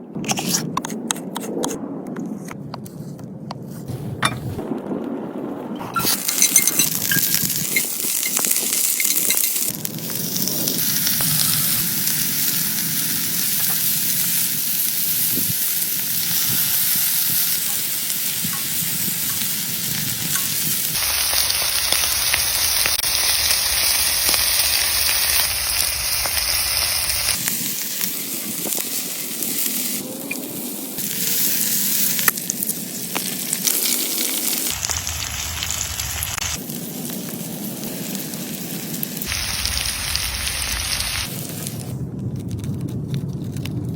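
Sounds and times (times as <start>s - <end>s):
food sizzling in a pan: 6.0s - 41.6s.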